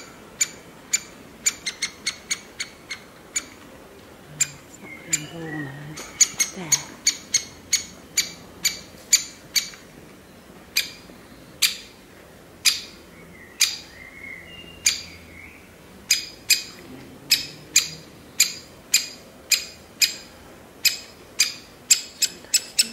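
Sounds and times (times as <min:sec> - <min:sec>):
woodpecker chick begging calls: 0:00.0 - 0:03.6, 0:04.4 - 0:09.8, 0:10.7 - 0:12.0, 0:12.6 - 0:13.0, 0:13.6 - 0:14.0, 0:14.8 - 0:15.2, 0:16.0 - 0:22.9.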